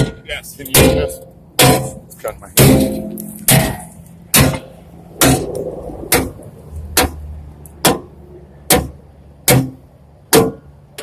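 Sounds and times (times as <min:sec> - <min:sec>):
sledgehammer striking metal: 0:00.0 - 0:10.7.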